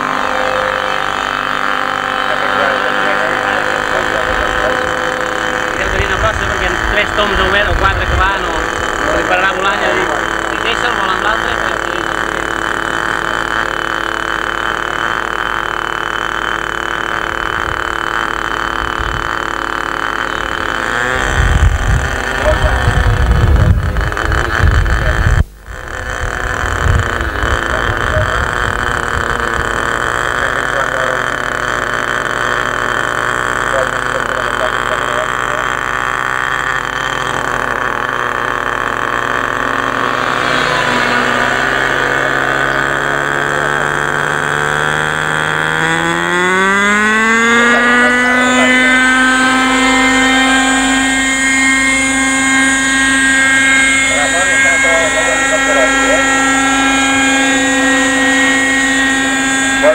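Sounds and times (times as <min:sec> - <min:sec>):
model airplane engine drone: 0:00.0 - 0:59.9.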